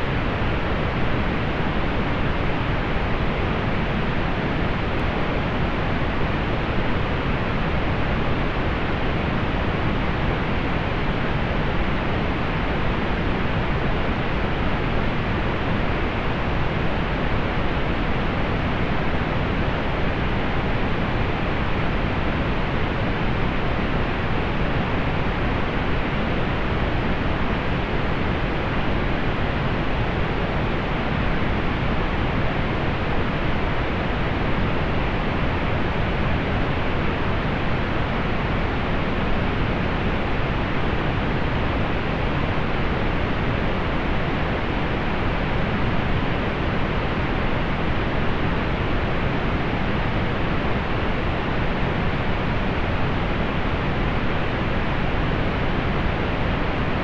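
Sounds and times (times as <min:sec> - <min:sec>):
pink noise hiss: 0:00.0 - 0:57.0.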